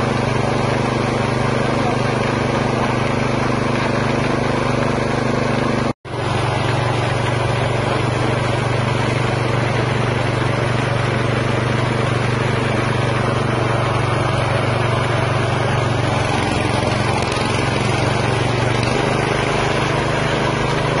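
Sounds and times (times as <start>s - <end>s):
meat grinder humming: 0.0s - 21.0s.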